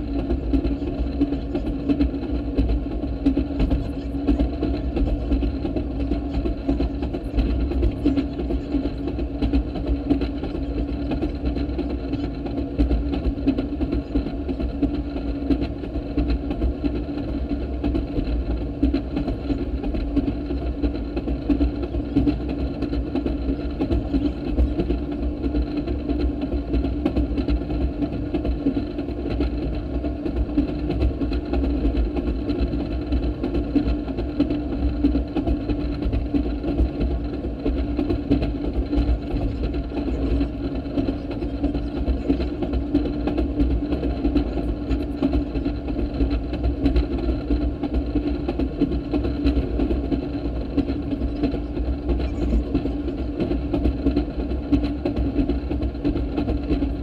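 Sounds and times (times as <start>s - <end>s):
rail motorcar engine drone: 0.0s - 57.0s.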